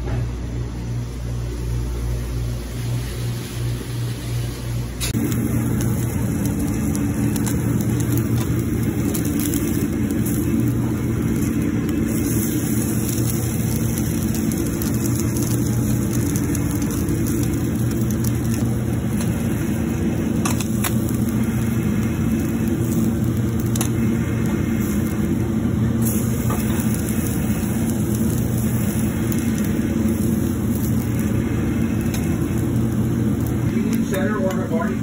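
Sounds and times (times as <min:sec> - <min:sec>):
kitchen fans humming: 0:00.0 - 0:35.0.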